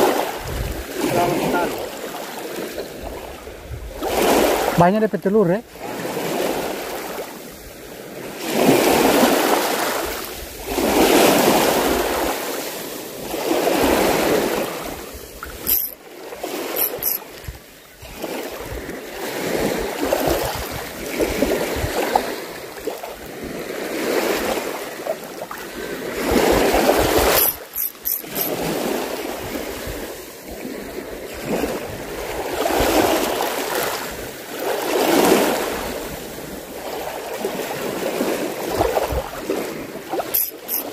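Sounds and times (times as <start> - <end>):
sea waves washing onto shore: 0.0 - 4.8, 5.7 - 40.9.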